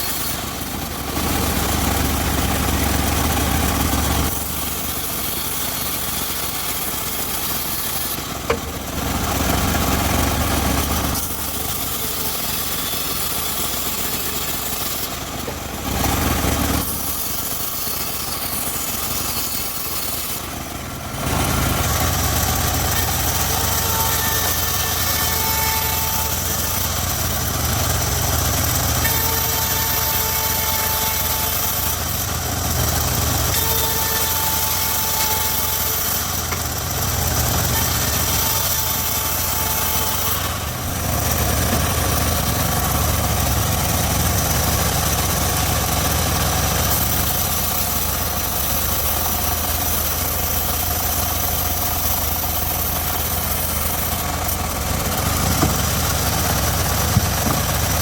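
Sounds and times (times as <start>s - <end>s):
circular sawmill running: 0.0s - 58.0s.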